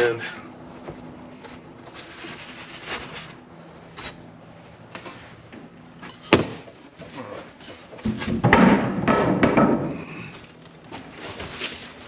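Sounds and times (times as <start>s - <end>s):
ductboard scraping and rustling: 0.8s - 4.1s, 4.9s - 12.0s.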